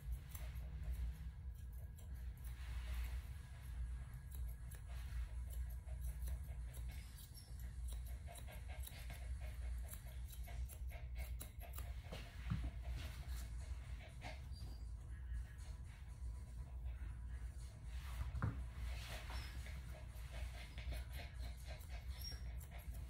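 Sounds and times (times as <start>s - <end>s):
scissors snipping dog fur: 0.0s - 16.6s, 17.3s - 23.0s
steady low hum: 0.0s - 23.0s.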